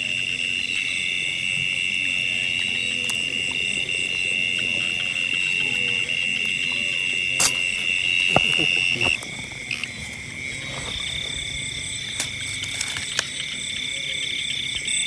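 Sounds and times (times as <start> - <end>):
insects and frogs trilling: 0.0 - 15.0.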